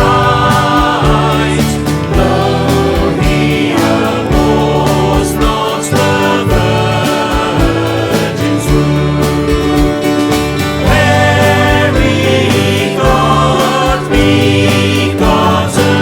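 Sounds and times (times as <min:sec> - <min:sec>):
gospel music with drum beat: 0:00.0 - 0:16.0.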